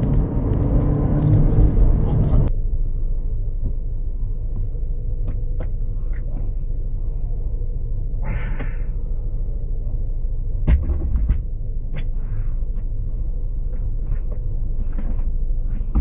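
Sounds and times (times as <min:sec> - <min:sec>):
car engine rumbling inside cabin: 0:00.0 - 0:16.0.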